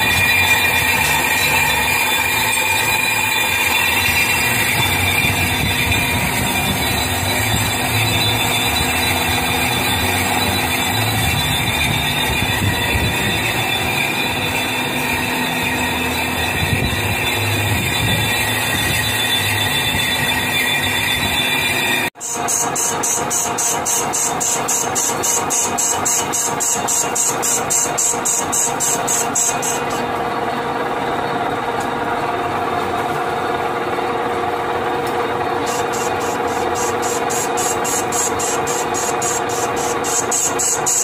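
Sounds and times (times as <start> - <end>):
metal lathe running: 0.0 - 41.0.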